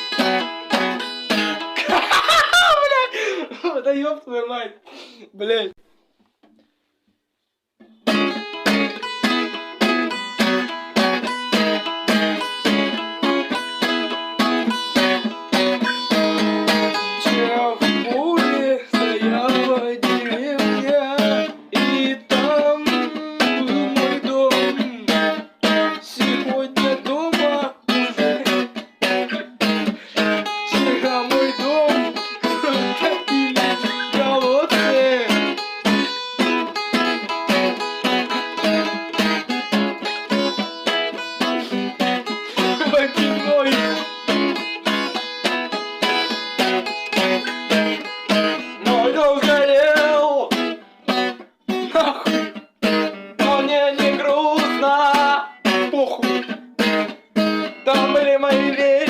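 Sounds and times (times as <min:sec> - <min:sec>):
guitar lead with bent notes: 0:00.0 - 0:02.1, 0:07.8 - 0:59.0
acoustic guitar strumming: 0:00.0 - 0:02.6, 0:07.8 - 0:59.0.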